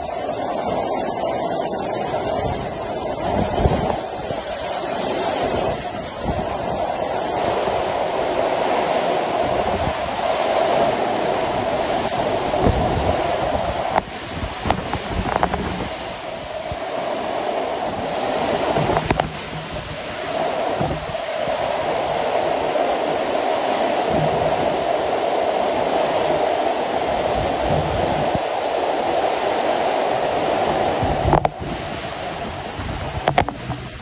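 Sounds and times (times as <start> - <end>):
torrential rain in strong wind: 0.0 - 34.0.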